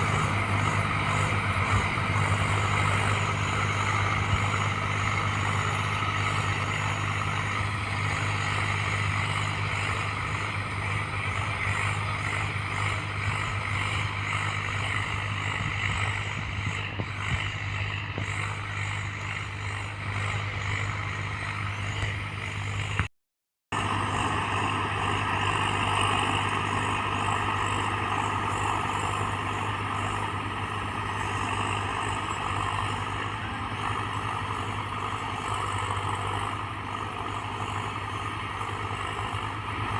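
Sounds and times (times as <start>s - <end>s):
tractor diesel engine running: 0.0s - 23.1s, 23.7s - 39.9s.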